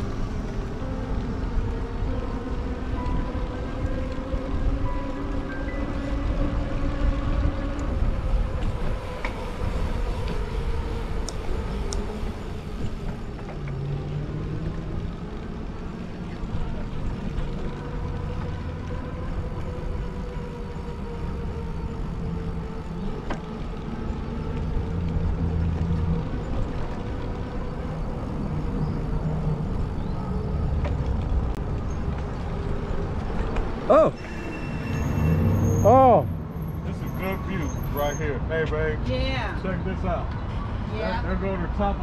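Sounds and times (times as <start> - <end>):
wind buffeting microphone: 0.0 - 33.9
steady rumble: 0.0 - 34.2.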